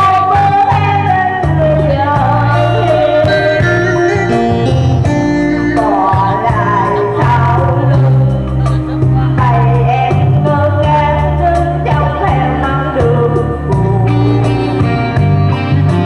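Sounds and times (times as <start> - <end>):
woman singing through loudspeakers: 0.0 - 4.8, 5.4 - 15.0
electronic keyboard with bass line: 0.0 - 16.0.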